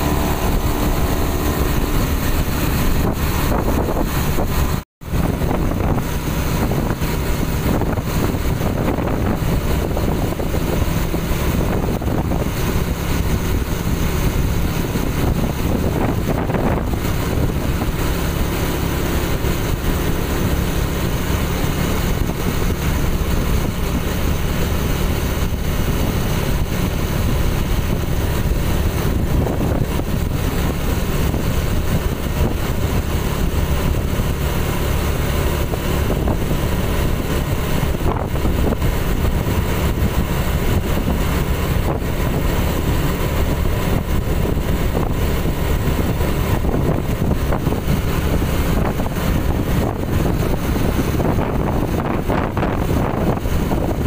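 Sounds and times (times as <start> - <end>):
motorcycle engine hum: 0.0 - 54.0
road noise: 0.0 - 54.0
wind buffeting microphone: 0.0 - 54.0.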